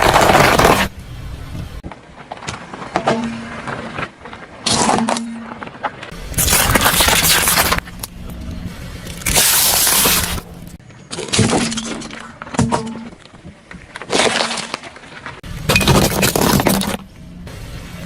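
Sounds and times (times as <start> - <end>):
objects crushed under car tyres: 0.0 - 0.9, 1.8 - 8.0, 9.2 - 17.1.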